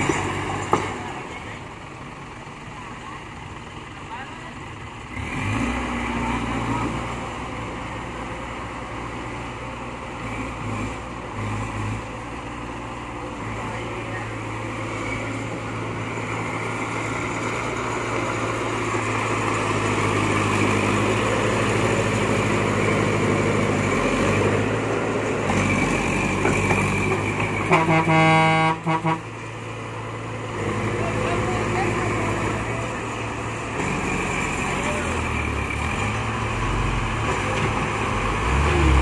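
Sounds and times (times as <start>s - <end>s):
diesel engines running: 0.0s - 39.0s.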